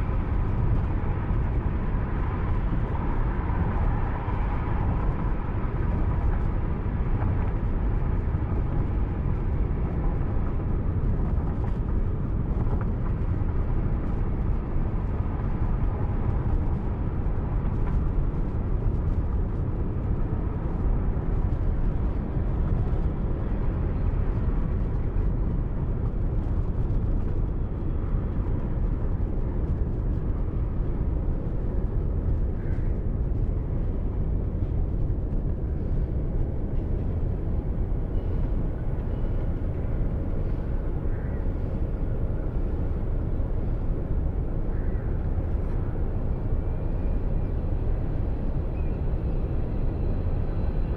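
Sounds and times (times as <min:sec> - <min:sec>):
car road and engine noise: 0:00.0 - 0:50.9.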